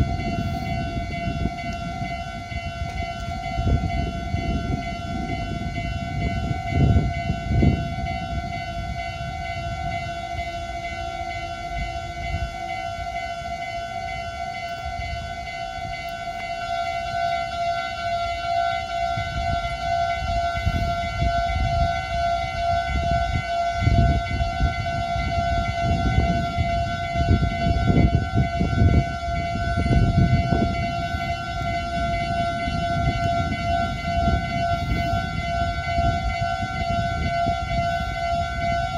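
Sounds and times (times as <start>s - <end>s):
level crossing bell ringing: 0.0s - 38.9s
train rumbling and knocking: 0.0s - 38.9s.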